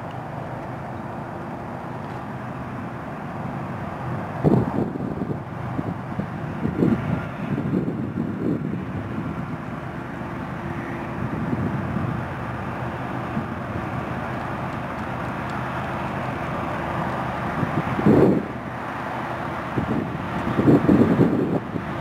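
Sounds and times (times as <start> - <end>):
diesel locomotive engine drone: 0.0 - 22.0
wind buffeting microphone: 3.8 - 22.0.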